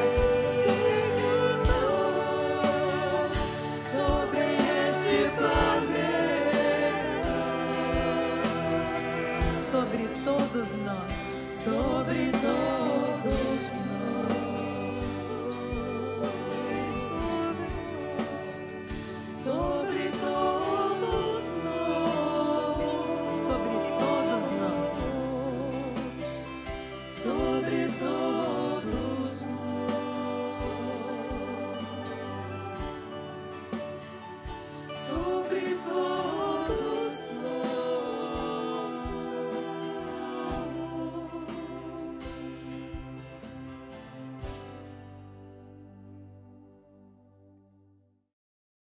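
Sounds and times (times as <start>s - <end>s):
choir and congregation singing hymn: 0.0s - 44.8s
sustained instrumental chords: 0.0s - 47.6s.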